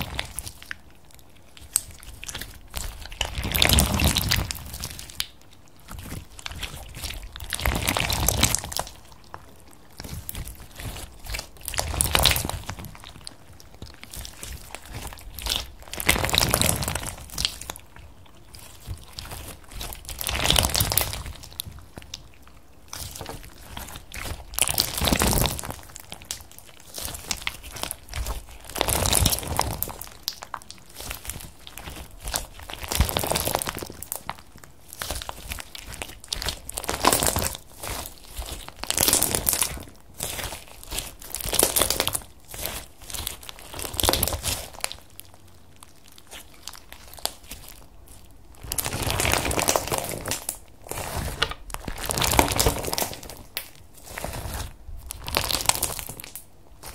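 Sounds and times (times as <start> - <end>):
slime squishing by hand: 0.0 - 56.9.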